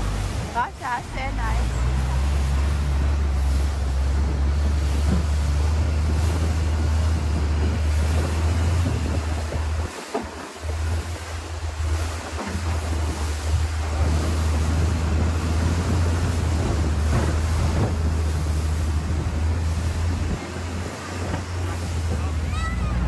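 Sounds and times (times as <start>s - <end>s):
boat engine running: 0.0s - 23.0s
water rushing past hull: 0.0s - 23.0s
wind buffeting microphone: 0.0s - 23.0s.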